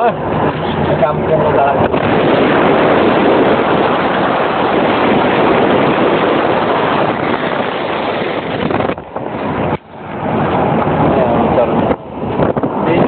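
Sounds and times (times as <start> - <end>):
wind and road noise in car: 0.0 - 13.0.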